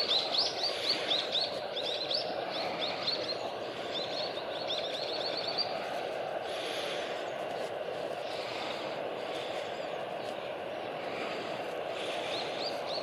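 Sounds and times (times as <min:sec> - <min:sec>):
small birds chirping: 0:00.0 - 0:13.0
steady background rumble: 0:00.0 - 0:13.0.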